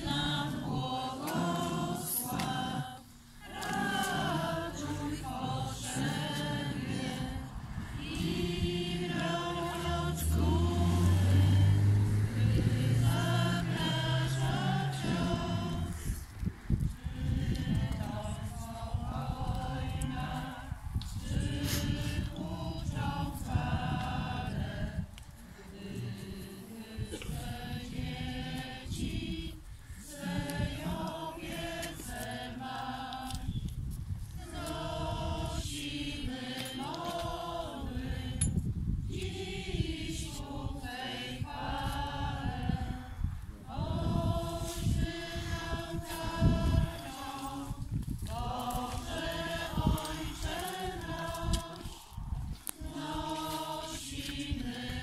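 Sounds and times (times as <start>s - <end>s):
crowd singing a hymn: 0.0s - 55.0s.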